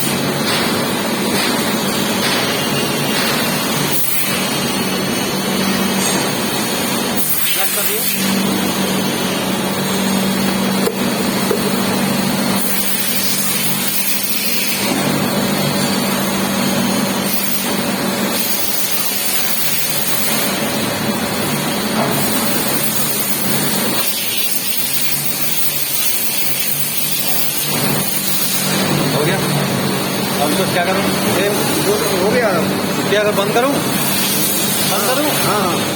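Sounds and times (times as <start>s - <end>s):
machine hiss: 0.0s - 32.7s, 33.4s - 35.9s
machining centre hum: 0.0s - 35.9s.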